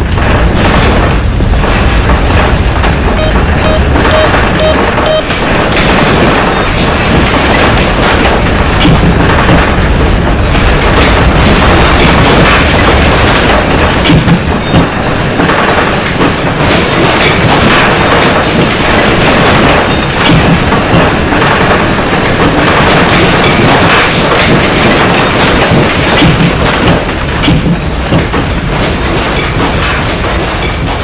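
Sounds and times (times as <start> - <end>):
explosion rumbling: 0.0 - 31.0.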